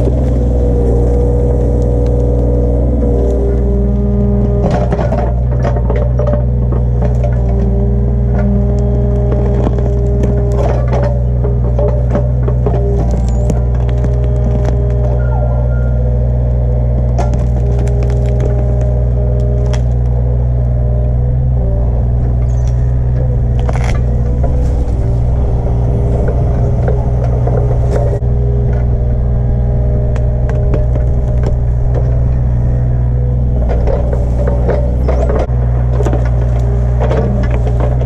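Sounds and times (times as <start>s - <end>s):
excavator engine running: 0.0s - 38.0s
roots and dirt cracking: 0.0s - 38.0s.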